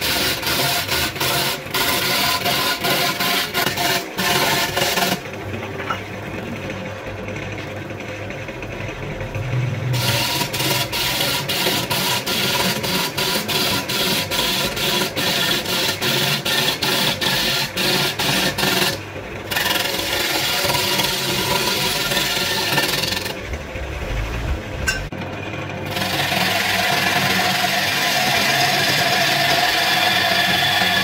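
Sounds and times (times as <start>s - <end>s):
gouge scraping spinning wood: 0.0s - 25.2s, 25.8s - 31.0s.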